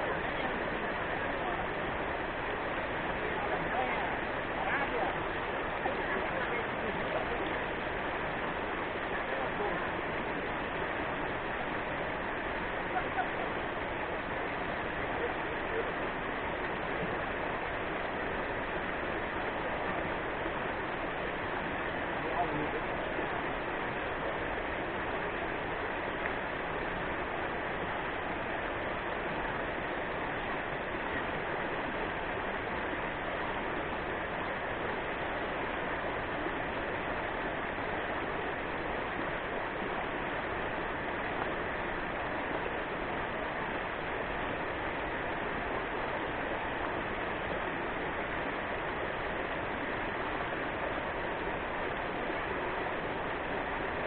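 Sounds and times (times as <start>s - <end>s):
river rushing over rapids: 0.0s - 54.0s.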